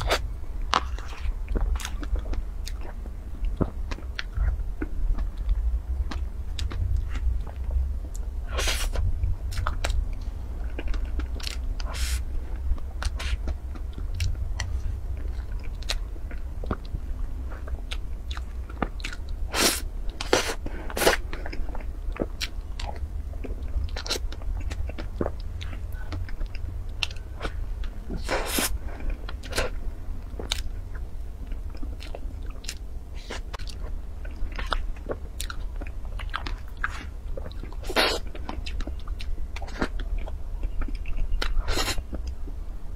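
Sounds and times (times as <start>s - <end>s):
chewing soft cake: 0.0s - 42.6s
steady low hum: 0.0s - 42.9s.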